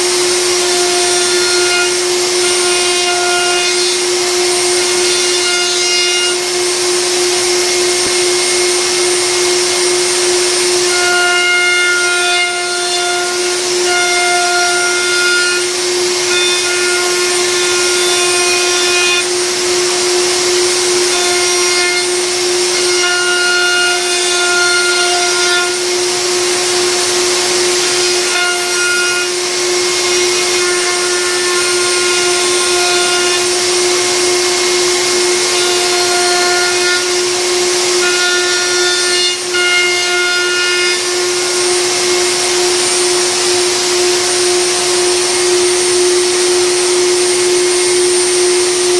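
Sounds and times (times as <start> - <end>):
router cutting wood with whine: 0.0 - 48.9.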